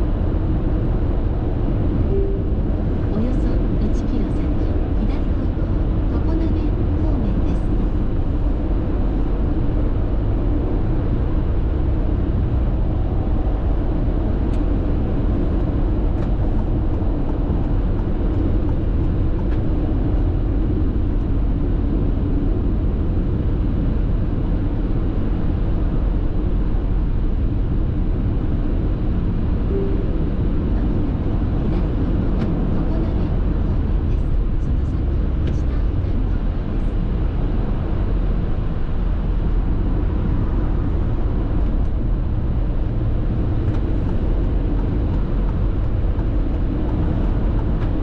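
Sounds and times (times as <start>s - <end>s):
road and tyre noise: 0.0s - 48.0s.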